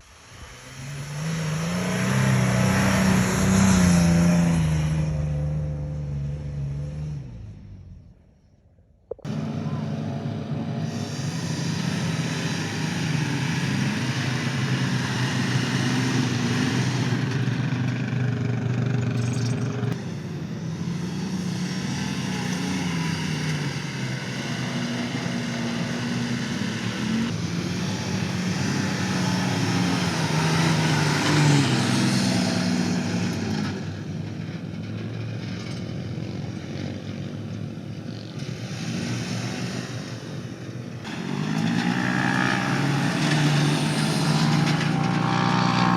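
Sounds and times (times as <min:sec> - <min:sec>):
car engine revving: 0:00.0 - 0:08.2, 0:09.1 - 0:34.2, 0:38.2 - 0:45.9.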